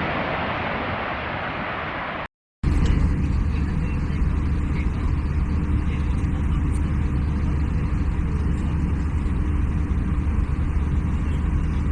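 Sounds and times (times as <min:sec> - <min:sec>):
low engine rumble: 0:00.0 - 0:11.9.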